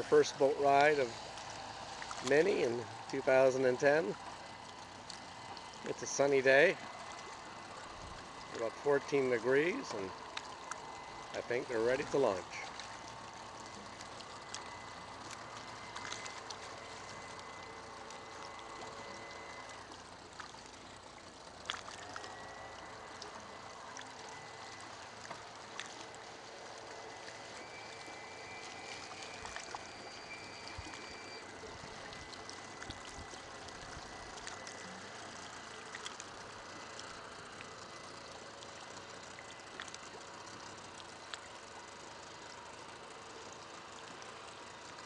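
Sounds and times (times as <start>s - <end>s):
outboard motor idling: 0.0s - 45.0s
water lapping against hull: 0.0s - 45.0s.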